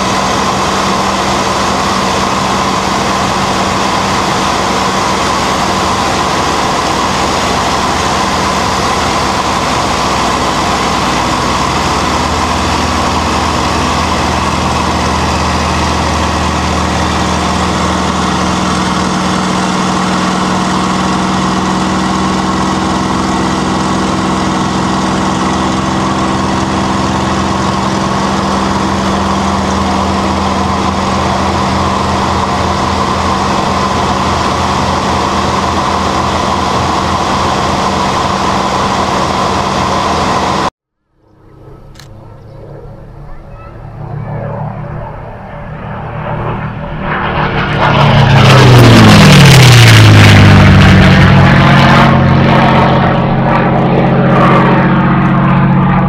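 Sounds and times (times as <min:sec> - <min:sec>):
aircraft engine running: 0:00.0 - 0:56.0.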